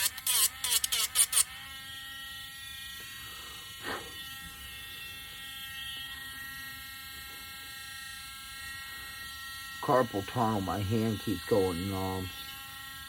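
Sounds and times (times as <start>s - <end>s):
rotary sanding tool buzzing: 0.0s - 13.0s.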